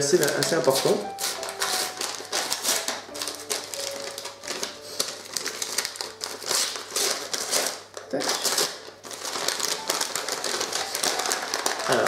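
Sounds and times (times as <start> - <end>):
paper envelope tearing and rustling: 0.0 - 12.0.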